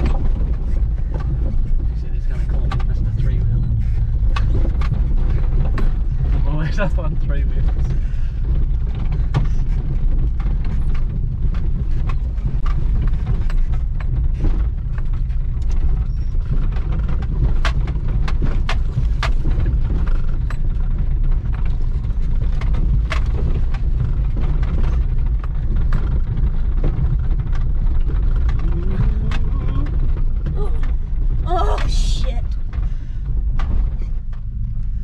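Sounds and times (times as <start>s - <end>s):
body knocks and rattles: 0.0s - 35.0s
vehicle engine and tyres rumbling: 0.0s - 35.0s.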